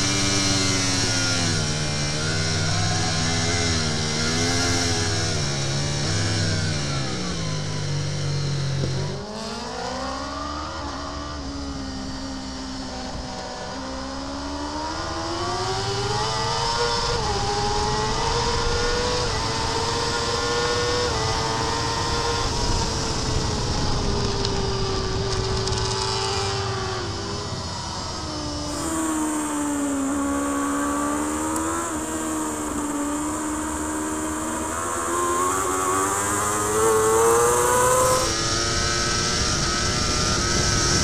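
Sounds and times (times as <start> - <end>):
motorcycle engine racing: 0.0 - 41.0.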